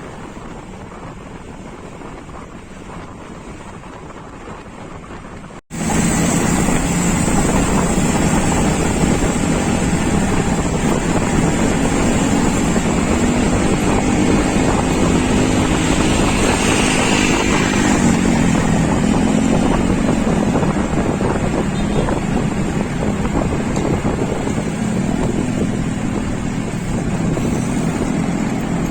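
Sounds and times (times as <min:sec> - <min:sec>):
low engine hum: 0:00.0 - 0:28.9
wind buffeting microphone: 0:00.0 - 0:28.9.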